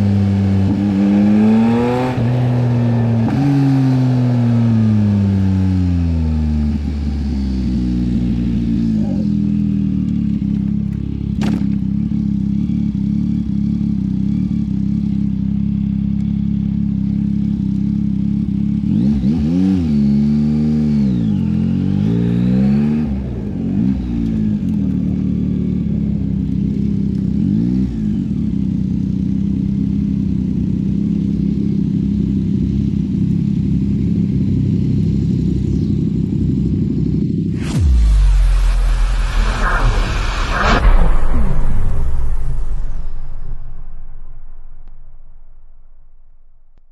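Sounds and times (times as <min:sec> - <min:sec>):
motorcycle engine revving: 0:00.0 - 0:41.8.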